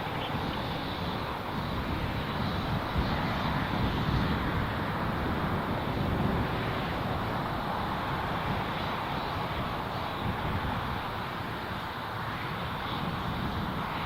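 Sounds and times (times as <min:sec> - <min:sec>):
wind buffeting microphone: 0:00.0 - 0:11.7, 0:12.4 - 0:14.0
aircraft engine running: 0:00.0 - 0:14.0.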